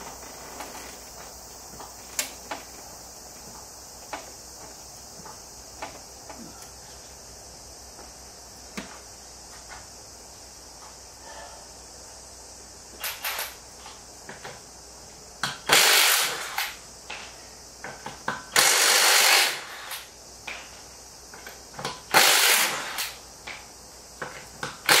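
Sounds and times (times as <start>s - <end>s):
high-pitched background hiss: 0.0s - 25.0s.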